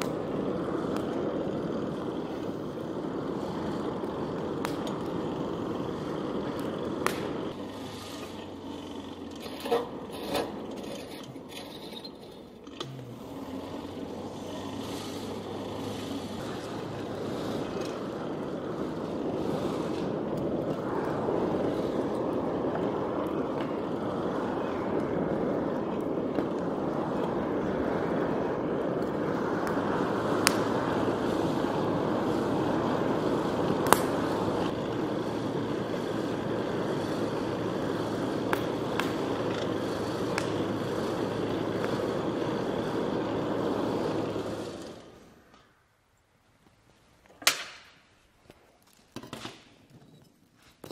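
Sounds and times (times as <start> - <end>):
burning wood popping: 0.0 - 50.9
wood fire rushing: 0.0 - 50.9.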